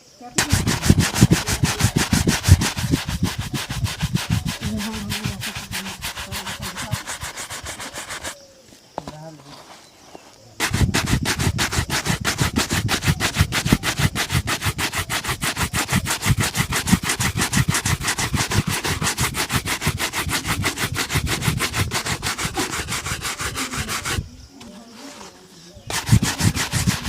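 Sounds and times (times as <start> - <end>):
brush strokes rubbing leather shoe: 0.4 - 8.5, 10.6 - 27.0.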